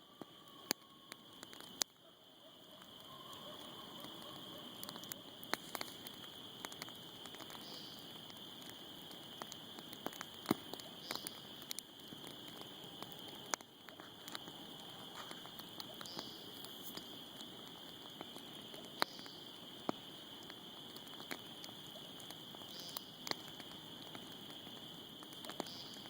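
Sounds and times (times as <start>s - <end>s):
campfire crackling and popping: 0.1s - 26.0s.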